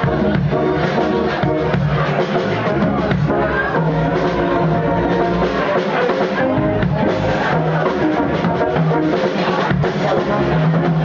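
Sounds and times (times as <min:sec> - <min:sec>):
drum kit and congas: 0:00.0 - 0:11.0.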